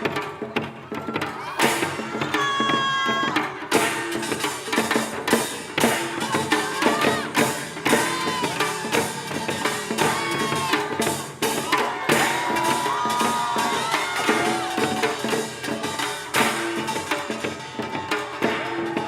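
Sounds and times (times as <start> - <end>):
drums and gongs: 0.0 - 19.0.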